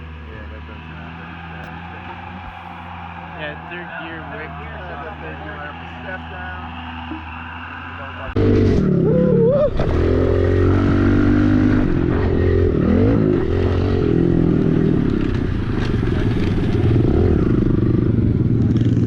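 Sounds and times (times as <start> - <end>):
pit bike engine running: 0.0 - 19.0.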